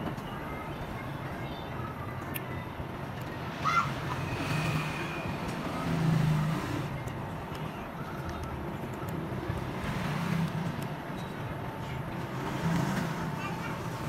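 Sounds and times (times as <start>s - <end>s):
passing motor traffic rumble: 0.0s - 14.0s.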